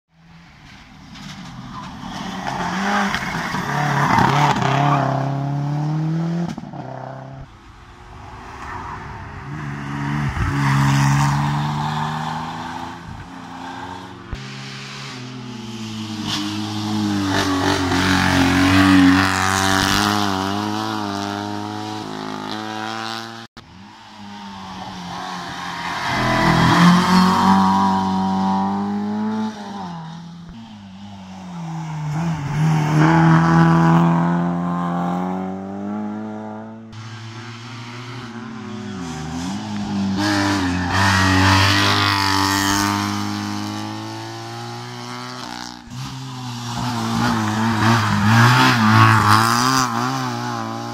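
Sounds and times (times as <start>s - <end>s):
racing car engines revving: 1.2s - 50.9s.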